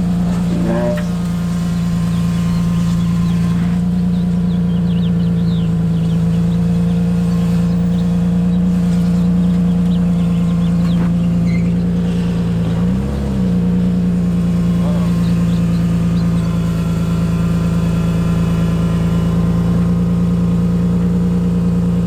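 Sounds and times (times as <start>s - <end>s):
car engine droning hum: 0.0s - 22.0s.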